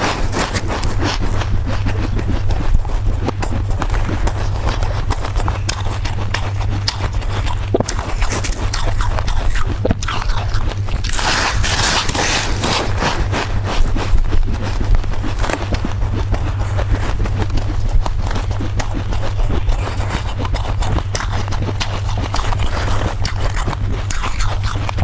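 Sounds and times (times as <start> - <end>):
chewing: 0.0 - 25.0
crunching freezer frost: 0.0 - 25.0
low hum: 0.0 - 25.0.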